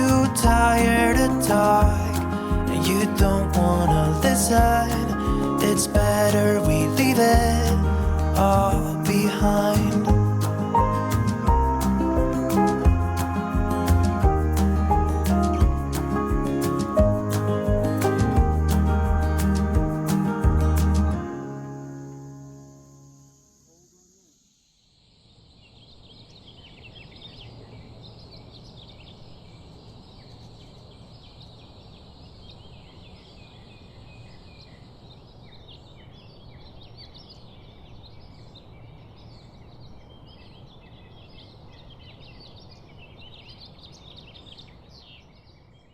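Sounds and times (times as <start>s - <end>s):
small birds chirping: 0.0s - 24.5s, 25.2s - 45.9s.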